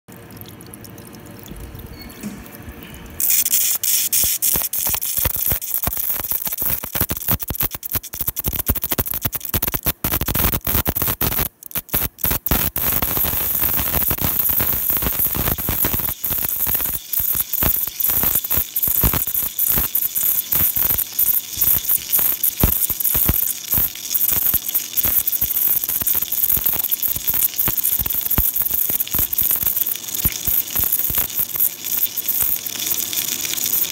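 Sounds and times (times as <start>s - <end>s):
rapid irregular clicks: 3.2s - 33.9s.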